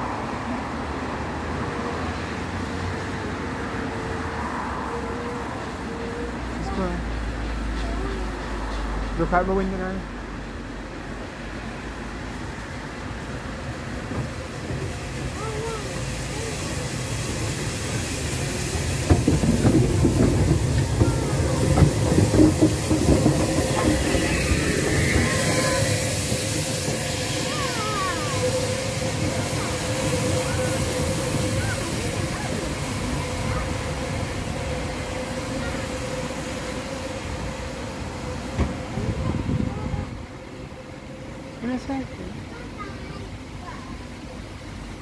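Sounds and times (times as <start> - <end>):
steam locomotive rumble and hiss: 0.0 - 45.0
wheels clanking on rails: 5.2 - 45.0.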